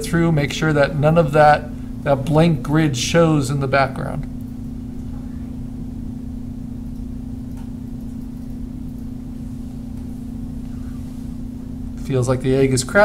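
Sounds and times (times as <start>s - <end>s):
constant low tone: 0.0s - 13.0s.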